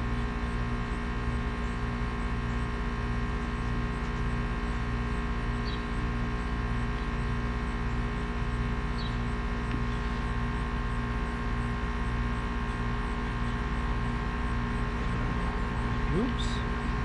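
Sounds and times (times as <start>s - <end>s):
electrical hum with low pulsing: 0.0s - 17.0s.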